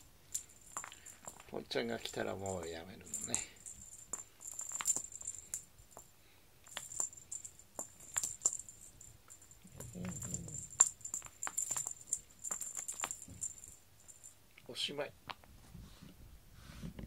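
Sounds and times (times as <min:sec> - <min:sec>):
wand toy jingling and rattling: 0:00.0 - 0:14.4.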